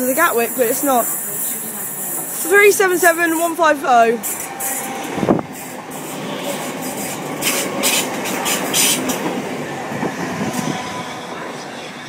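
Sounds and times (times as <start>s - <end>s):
train rail rumble: 0.0s - 12.0s.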